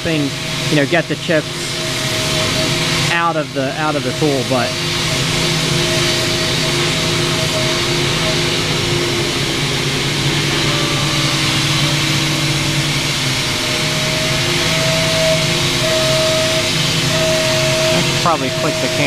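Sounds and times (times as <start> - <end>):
milling machine spindle humming: 0.0 - 19.0
cold air blast hissing: 0.1 - 19.0.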